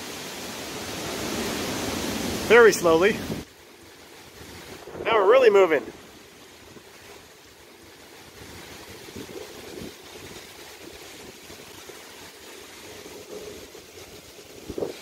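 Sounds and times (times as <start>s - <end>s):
light wind: 0.0s - 15.0s
water lapping: 0.6s - 15.0s.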